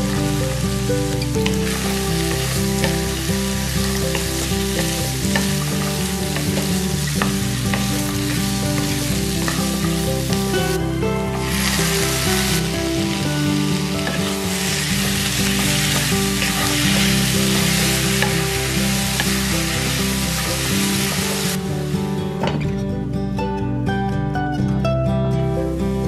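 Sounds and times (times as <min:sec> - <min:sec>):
vegetables sizzling in oil: 0:00.0 - 0:22.4.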